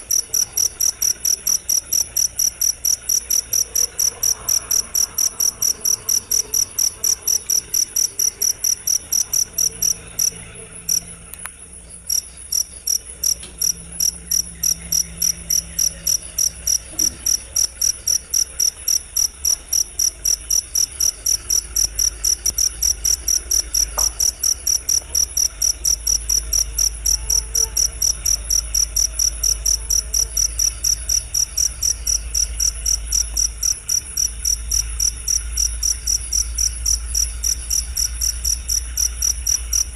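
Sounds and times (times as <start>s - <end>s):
cricket chirping: 0.0s - 39.9s
low background hum: 0.0s - 39.9s.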